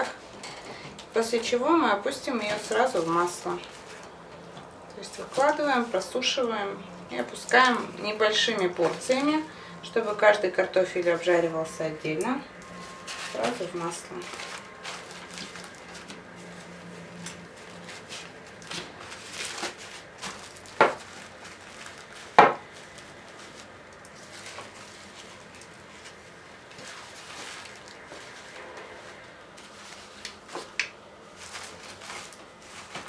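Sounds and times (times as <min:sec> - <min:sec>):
paper towels rustling: 0:01.1 - 0:33.0.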